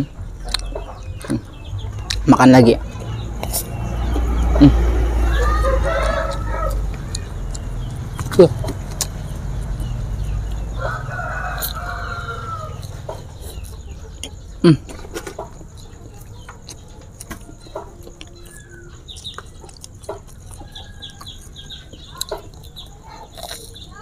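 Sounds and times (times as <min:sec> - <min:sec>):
chickens clucking: 0:00.0 - 0:24.0
chewing crisp food: 0:00.4 - 0:02.3, 0:05.6 - 0:24.0.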